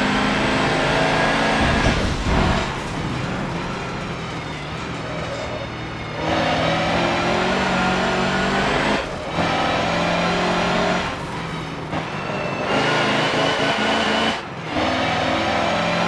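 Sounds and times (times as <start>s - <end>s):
truck diesel engine under load: 0.0s - 16.0s.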